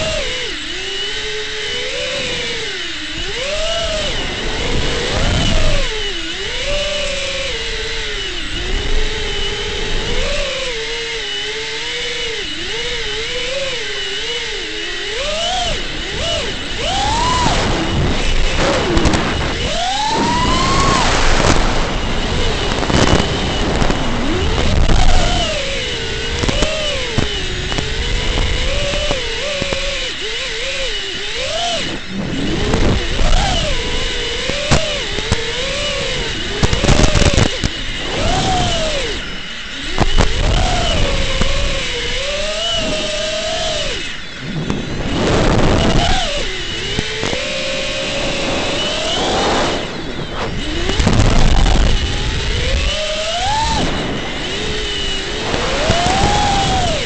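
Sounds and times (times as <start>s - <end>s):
drone motors whining: 0.0s - 57.0s
steady high-pitched tone: 0.0s - 57.0s.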